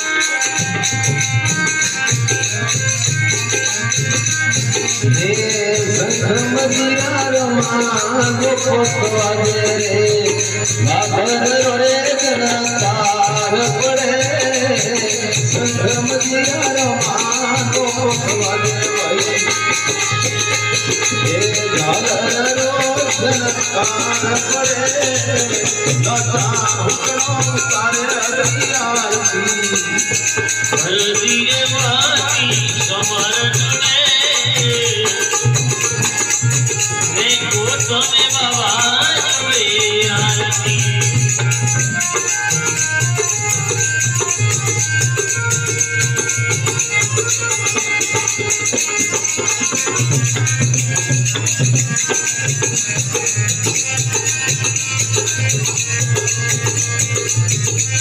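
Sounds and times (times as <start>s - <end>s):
hand drum: 0.0s - 58.0s
harmonium: 0.0s - 58.0s
man singing: 4.7s - 58.0s.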